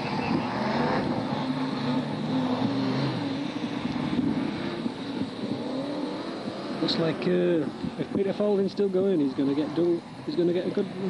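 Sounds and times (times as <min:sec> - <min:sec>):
racing car engines lapping: 0:00.0 - 0:11.0.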